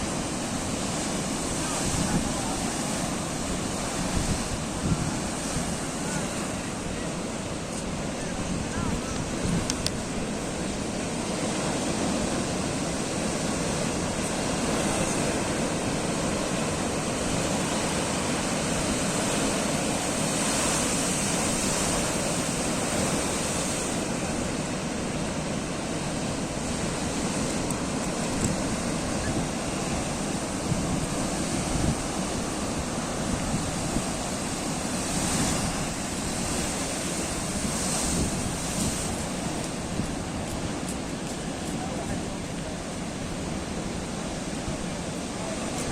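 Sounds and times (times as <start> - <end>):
ocean waves breaking: 0.0 - 45.9
wind buffeting microphone: 0.0 - 45.9.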